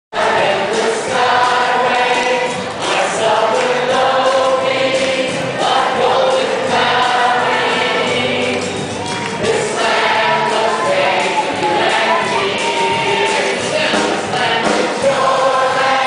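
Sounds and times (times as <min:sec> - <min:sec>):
choir singing long notes: 0:00.2 - 0:16.0.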